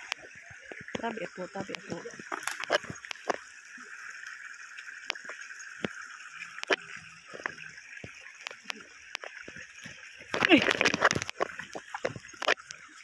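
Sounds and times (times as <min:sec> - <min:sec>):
creek hiss: 0:00.0 - 0:13.0.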